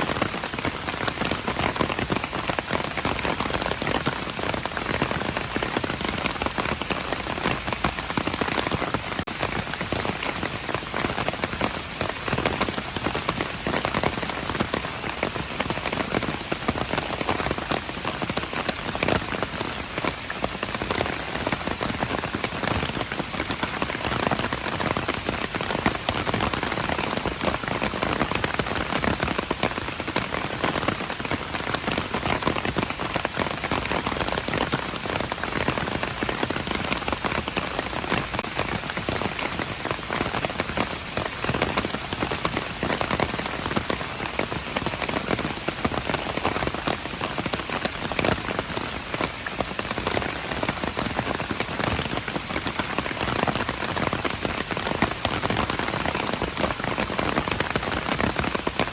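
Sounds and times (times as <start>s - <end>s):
rain pattering on hard surfaces: 0.0s - 58.9s.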